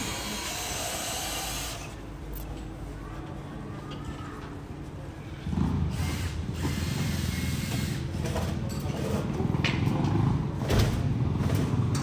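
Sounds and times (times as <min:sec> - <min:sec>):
low mechanical rumble with rattle: 0:00.0 - 0:12.0
street noise: 0:00.0 - 0:12.0.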